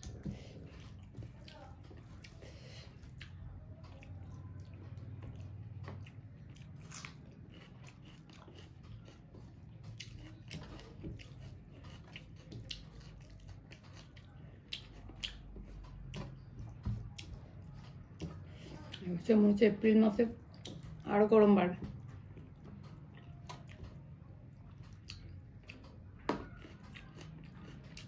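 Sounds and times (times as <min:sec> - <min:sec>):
person chewing food: 0:00.0 - 0:19.2, 0:20.3 - 0:21.1, 0:21.8 - 0:28.0.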